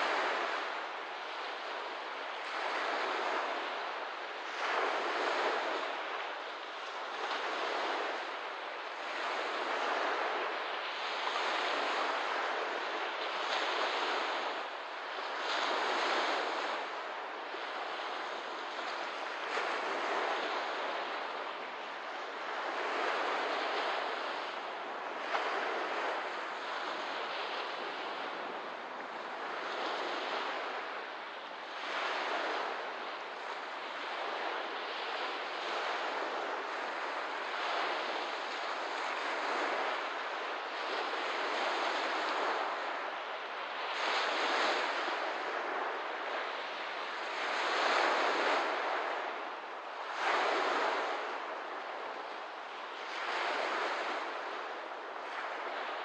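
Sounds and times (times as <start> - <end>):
waves washing onto shore: 0.0 - 56.0.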